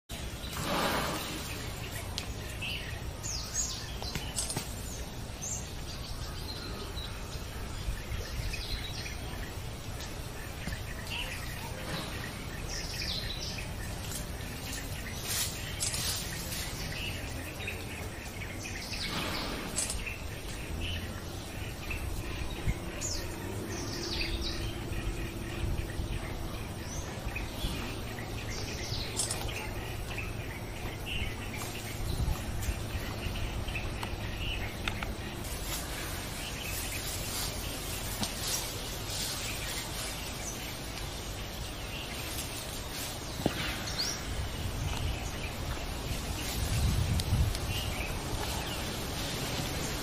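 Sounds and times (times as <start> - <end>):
birds chirping: 0.1 - 50.0
outdoor background hiss: 0.1 - 50.0.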